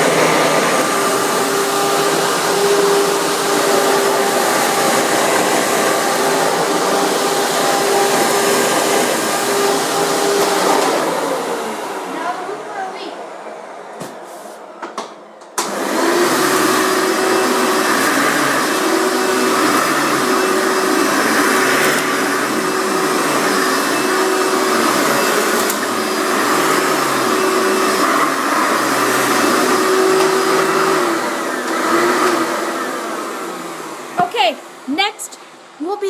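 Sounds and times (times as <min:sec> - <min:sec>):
vacuum cleaner motor whining: 0:00.0 - 0:13.0, 0:15.5 - 0:34.9.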